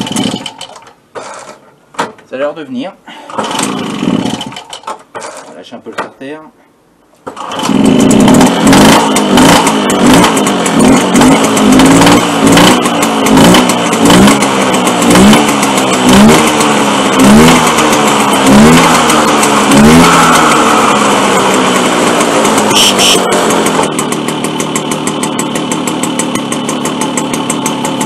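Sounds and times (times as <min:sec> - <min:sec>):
moped engine revving: 0:00.0 - 0:01.6, 0:03.3 - 0:05.5, 0:07.2 - 0:28.0.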